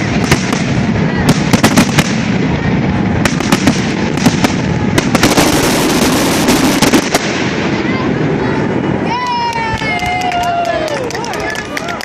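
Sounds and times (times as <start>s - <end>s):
fireworks bursting rumble: 0.0s - 12.0s
fireworks cracks and crackling: 0.0s - 12.0s.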